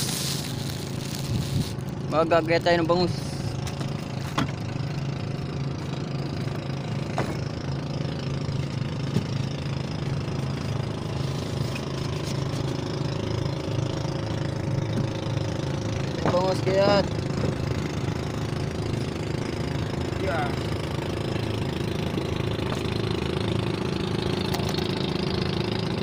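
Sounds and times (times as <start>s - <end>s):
small boat engine humming: 0.0s - 26.0s.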